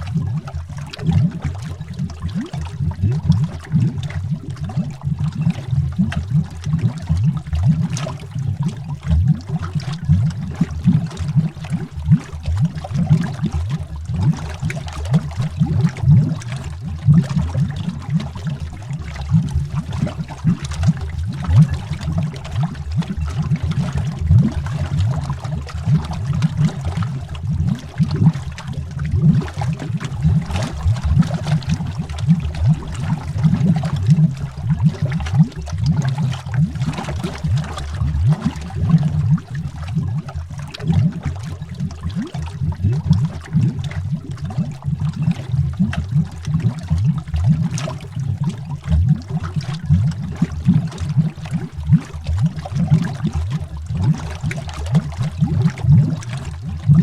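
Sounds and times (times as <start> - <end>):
underwater bubbling: 0.0 - 57.0
watery fizz: 0.0 - 57.0.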